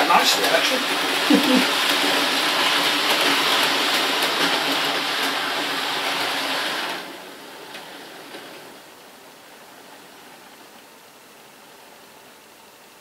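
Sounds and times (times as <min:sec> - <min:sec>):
model train whirring and rattling: 0:00.0 - 0:12.2.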